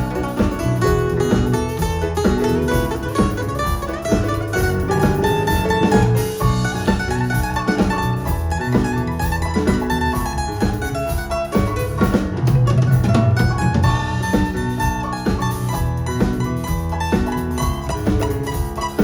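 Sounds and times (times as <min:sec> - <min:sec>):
bass line: 0:00.0 - 0:19.0
drums: 0:00.0 - 0:19.0
plucked-string melody: 0:00.0 - 0:19.0.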